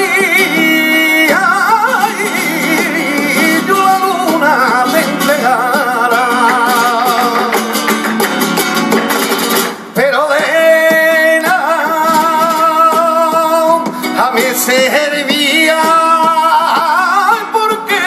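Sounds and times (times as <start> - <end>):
flamenco guitar: 0.0 - 18.0
man singing flamenco: 0.0 - 18.0.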